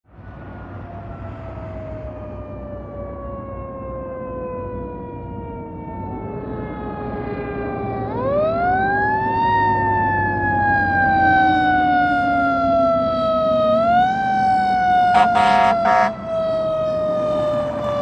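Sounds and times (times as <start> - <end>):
engine and road rumble: 0.0 - 18.0
fire engine siren wailing: 0.1 - 18.0.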